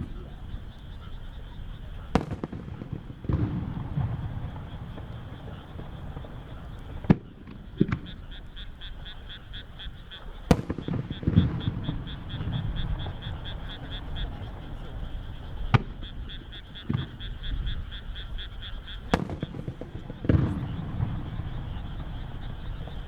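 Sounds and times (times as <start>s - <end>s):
fireworks bursting with bangs: 0.0s - 23.0s.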